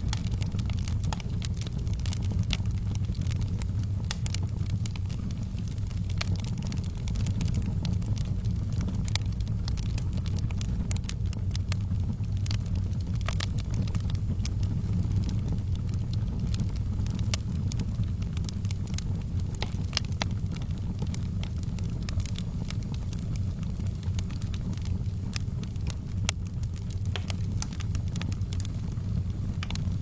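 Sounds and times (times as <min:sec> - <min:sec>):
fire crackling and popping: 0:00.0 - 0:30.0
low fire rumble: 0:00.0 - 0:30.0.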